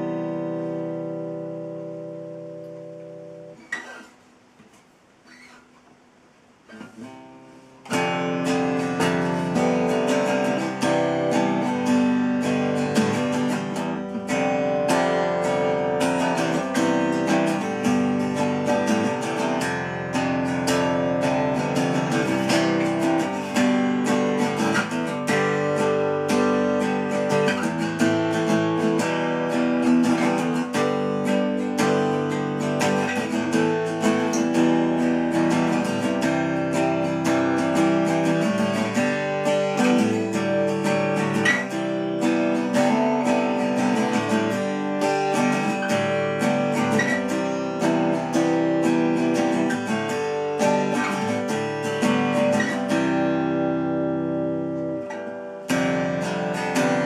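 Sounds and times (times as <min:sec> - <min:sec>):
acoustic guitar strummed: 0:00.0 - 0:57.0.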